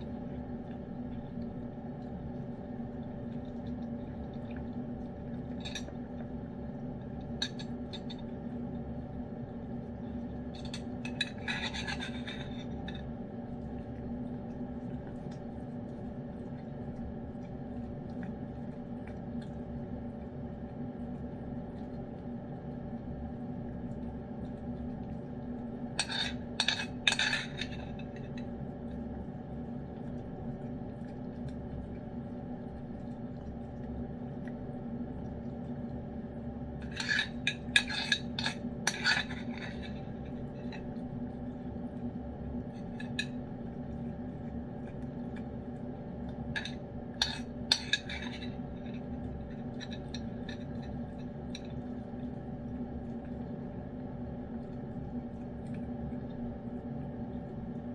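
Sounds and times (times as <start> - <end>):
low hum: 0.0 - 57.9.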